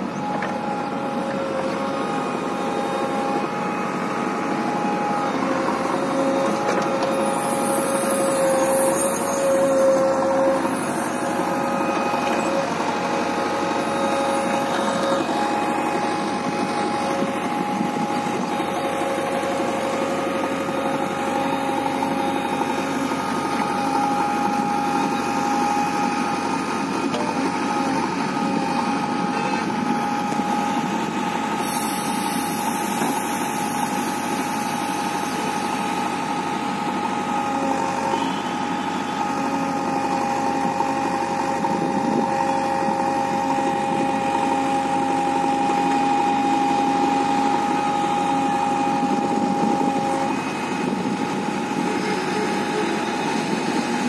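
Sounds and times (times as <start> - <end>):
diesel engine running: 0.0 - 54.0
hydraulic whining: 0.0 - 54.0.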